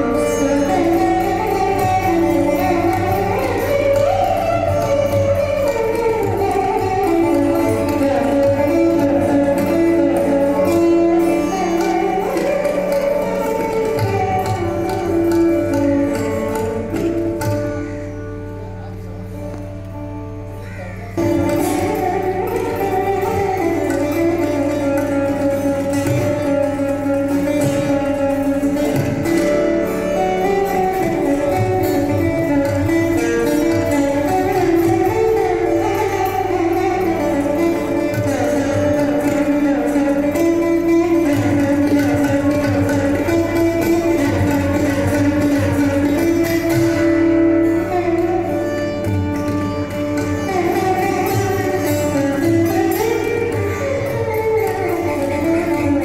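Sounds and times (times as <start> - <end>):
plucked string melody: 0.0 - 56.0.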